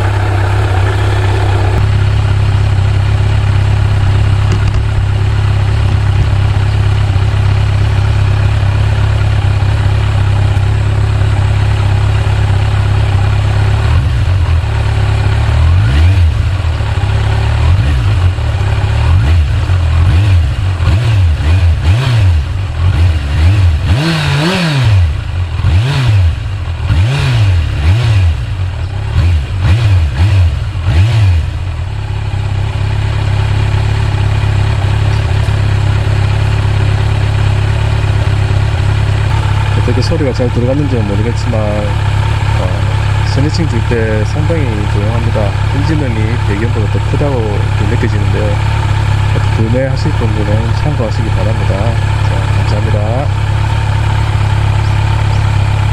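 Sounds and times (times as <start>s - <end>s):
motorcycle engine idling and revving: 0.0s - 55.9s.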